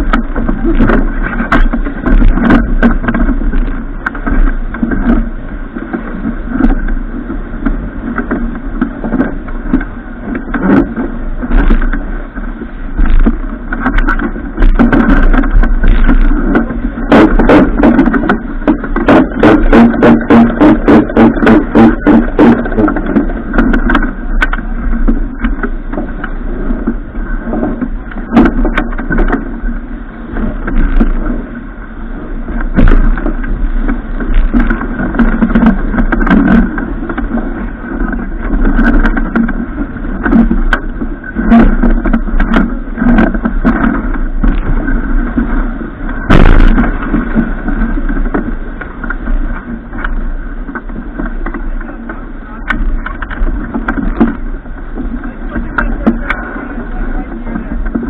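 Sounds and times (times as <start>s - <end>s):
boat rushing noise: 0.0s - 58.0s.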